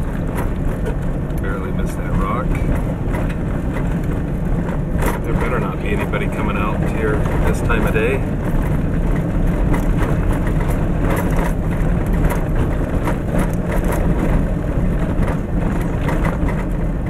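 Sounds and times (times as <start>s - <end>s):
knocks and jolts from rough road: 0.0s - 17.0s
vehicle rumbling on gravel road: 0.0s - 17.0s.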